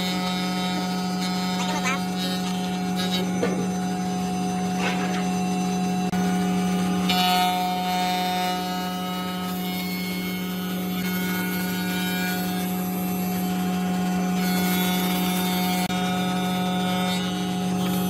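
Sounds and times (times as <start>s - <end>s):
power tool motor hum: 0.0s - 18.0s
tool cutting wood: 0.0s - 18.0s.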